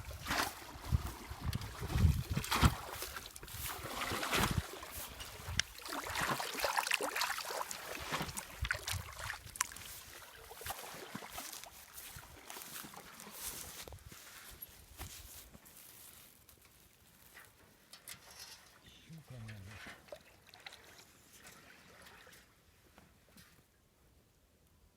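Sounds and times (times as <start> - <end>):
water splashing and sloshing: 0.0 - 23.3.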